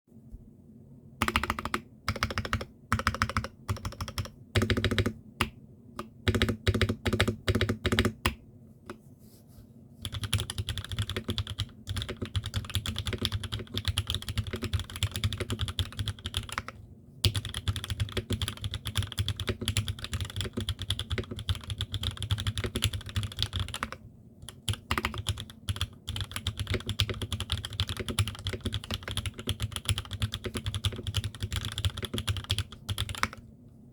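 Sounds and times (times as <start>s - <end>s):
mechanical keyboard typing: 1.2s - 8.4s, 10.0s - 33.4s.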